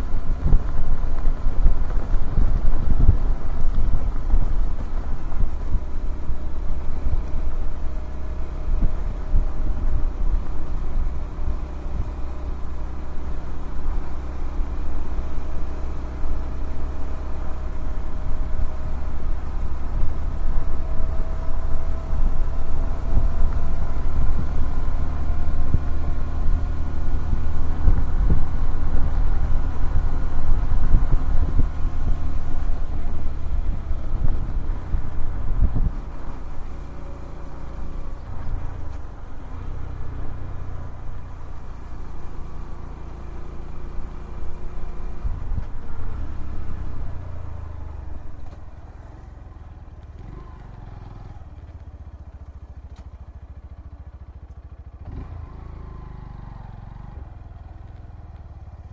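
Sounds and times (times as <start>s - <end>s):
wind rumble on microphone: 0.0s - 51.8s
motorcycle engine running: 0.0s - 58.9s.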